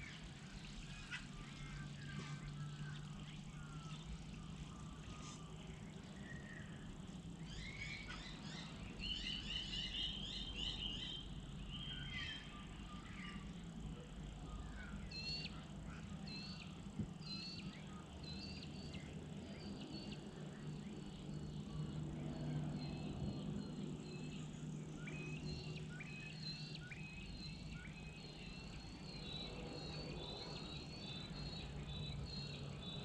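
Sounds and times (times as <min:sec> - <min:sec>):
birds chirping: 0:00.0 - 0:33.0
low steady hum: 0:00.0 - 0:33.0.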